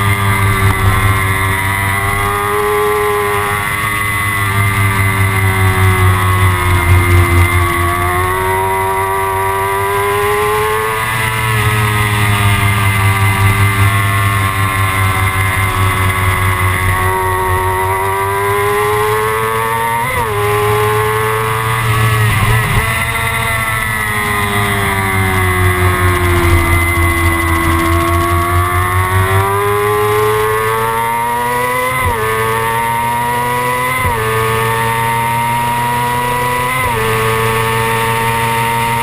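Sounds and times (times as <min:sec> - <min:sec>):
motorcycle engine revving high: 0:00.0 - 0:39.0.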